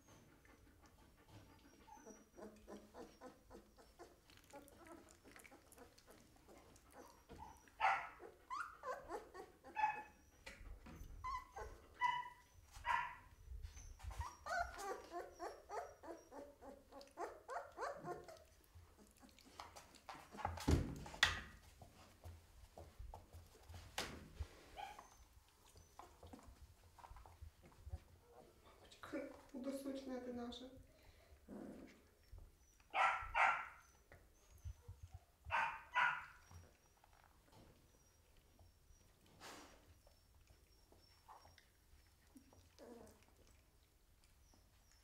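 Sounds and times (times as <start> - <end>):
puppies whimpering and squeaking: 0.0 - 20.7, 24.7 - 28.8, 31.4 - 45.0.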